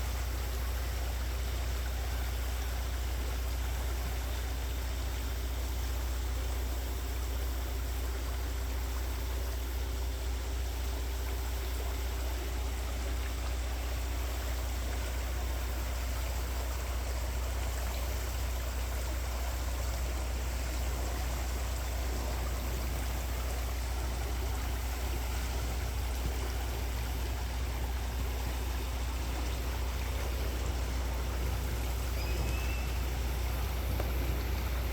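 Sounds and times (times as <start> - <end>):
river water flowing: 0.0 - 34.9.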